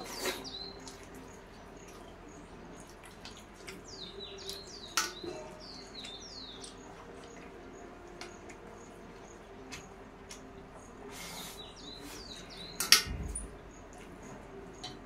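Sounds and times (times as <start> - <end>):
small bird chirping: 0.0 - 10.0, 11.2 - 14.1.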